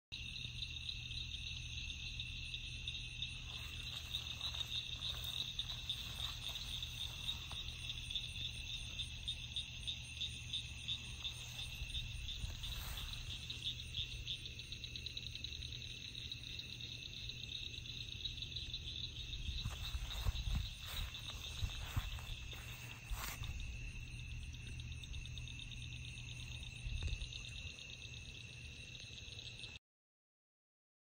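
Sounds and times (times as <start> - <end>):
night insects chirring: 0.1 - 29.8.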